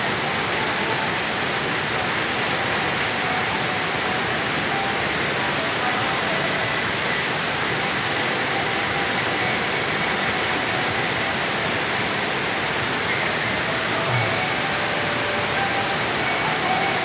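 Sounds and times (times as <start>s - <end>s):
waterfall splashing into pool: 0.0s - 17.0s.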